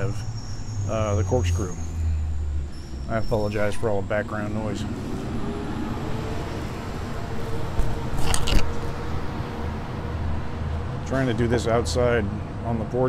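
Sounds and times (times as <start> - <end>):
passing vehicle rumble: 0.0 - 13.0.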